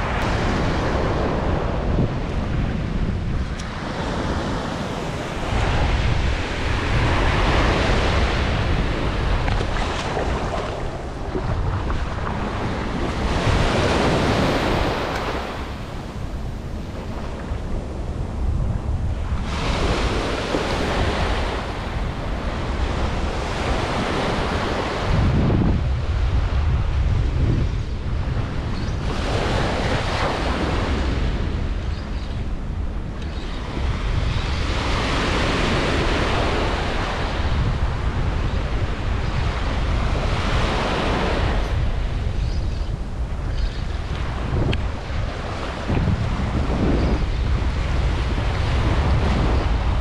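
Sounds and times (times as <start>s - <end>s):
ocean surf breaking on sand: 0.0s - 31.8s, 32.5s - 42.4s
wind rumble on microphone: 0.0s - 50.0s.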